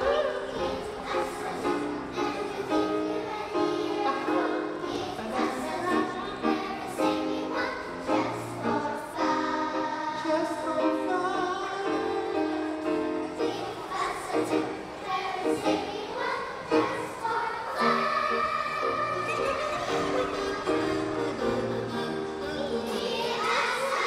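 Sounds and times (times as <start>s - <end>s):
children's choir singing: 0.0s - 24.0s.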